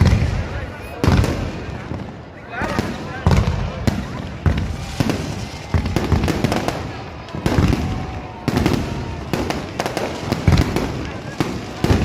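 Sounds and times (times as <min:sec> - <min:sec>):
fireworks bangs: 0:00.0 - 0:12.0
voices: 0:00.0 - 0:12.0.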